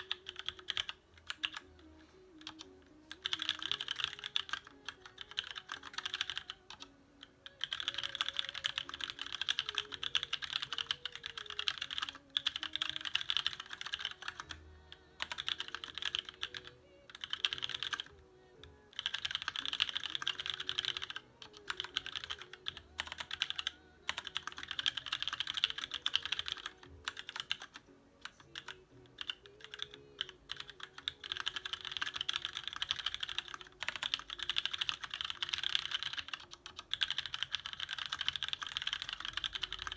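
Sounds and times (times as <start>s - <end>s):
faint music: 0.0s - 39.9s
fast typing on mechanical keyboard: 0.0s - 39.9s.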